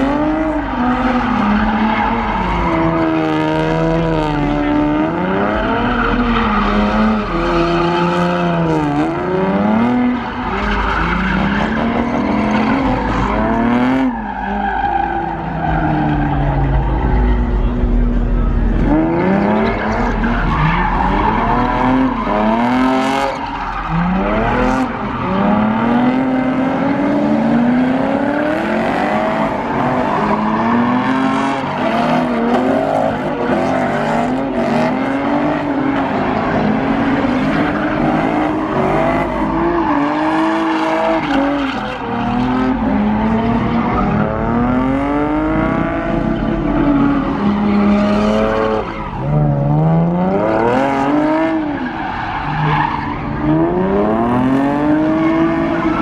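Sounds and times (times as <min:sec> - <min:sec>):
car engine revving: 0:00.0 - 0:56.0
tyres squealing on asphalt: 0:00.0 - 0:56.0.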